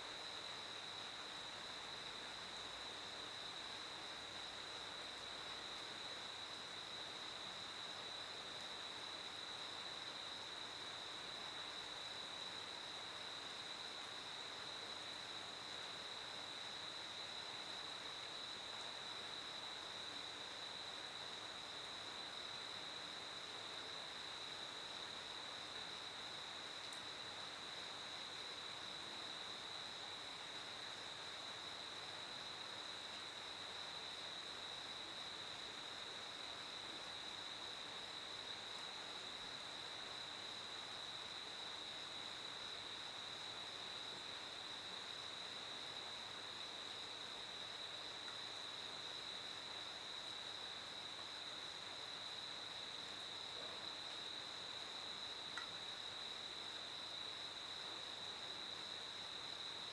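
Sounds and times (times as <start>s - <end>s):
crickets chirping: 0.0s - 59.9s
faint background noise: 0.0s - 59.9s.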